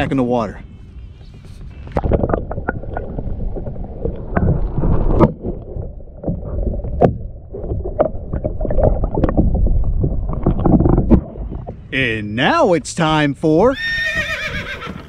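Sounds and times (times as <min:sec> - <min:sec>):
muffled water sloshing underwater: 0:00.0 - 0:12.4.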